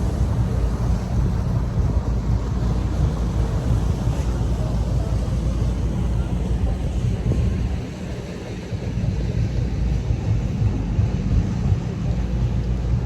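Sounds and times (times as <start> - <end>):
boat engine rumbling: 0.0 - 13.0
wind on microphone: 0.0 - 13.0.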